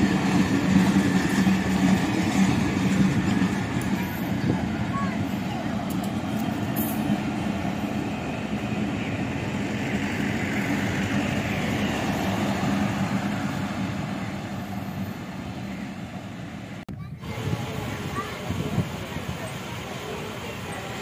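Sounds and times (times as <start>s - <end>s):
passenger train rumbling: 0.0s - 21.0s.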